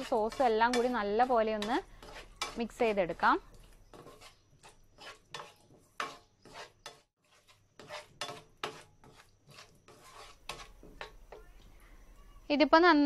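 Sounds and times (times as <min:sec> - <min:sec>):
spatula scraping frying pan: 0:00.0 - 0:11.5.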